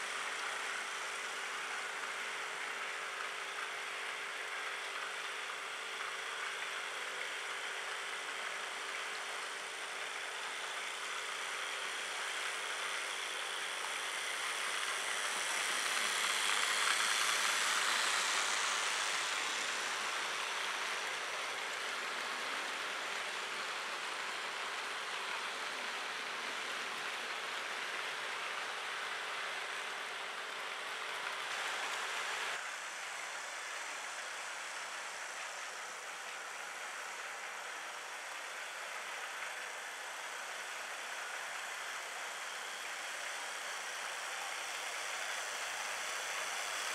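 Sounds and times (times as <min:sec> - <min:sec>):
model train motor hum: 0:00.0 - 0:46.9.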